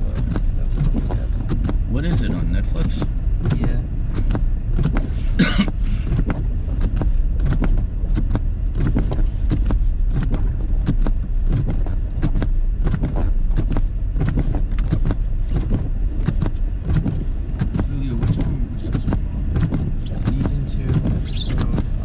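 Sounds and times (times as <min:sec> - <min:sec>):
car engine and tyre rumble: 0:00.0 - 0:22.0
knocks and clicks: 0:00.1 - 0:22.0.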